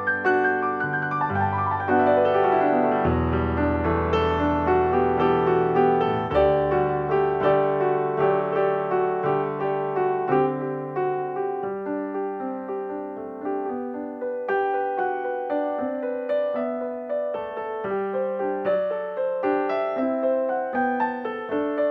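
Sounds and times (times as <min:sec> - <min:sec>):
piano music: 0:00.0 - 0:21.9.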